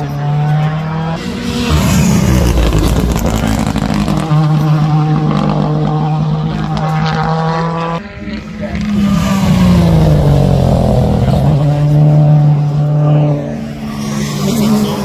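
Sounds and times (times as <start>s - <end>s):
rally car engine under load: 0.0s - 15.0s.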